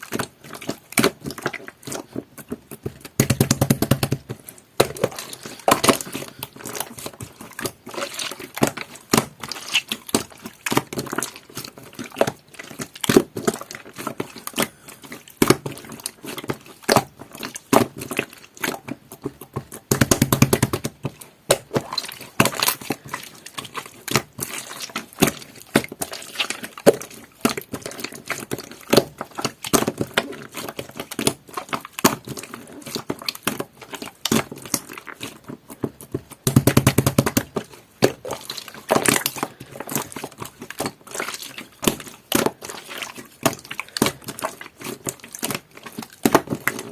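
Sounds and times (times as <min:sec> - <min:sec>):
slime squelching by hand: 0:00.0 - 0:46.9.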